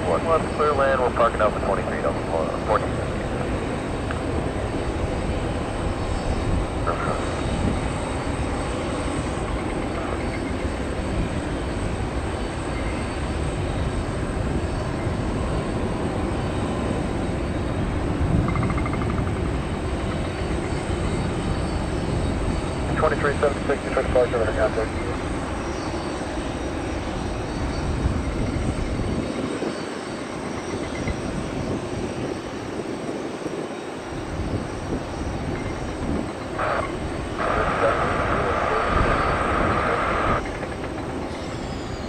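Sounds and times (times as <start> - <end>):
jet engine rumble: 0.0 - 42.0.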